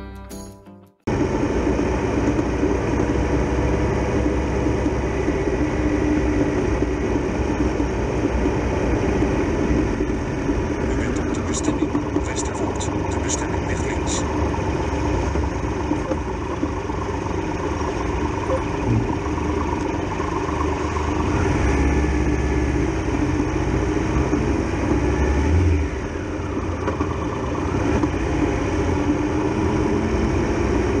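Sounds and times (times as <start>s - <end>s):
motorcycle engine running: 1.1s - 31.0s.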